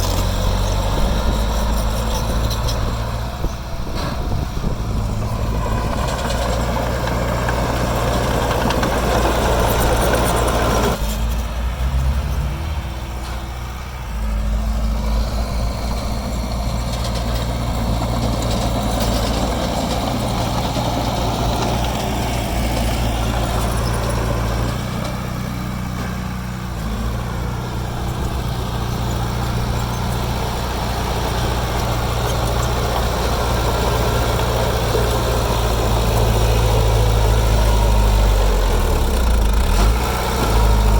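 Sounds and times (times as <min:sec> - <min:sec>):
diesel engine running: 0:00.0 - 0:40.9
engine clatter: 0:00.0 - 0:40.9.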